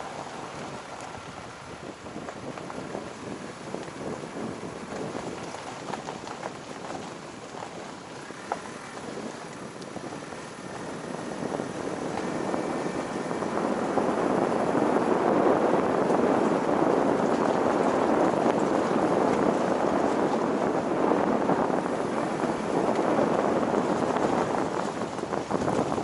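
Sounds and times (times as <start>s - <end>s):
tyre and wind noise rushing: 0.0s - 26.0s.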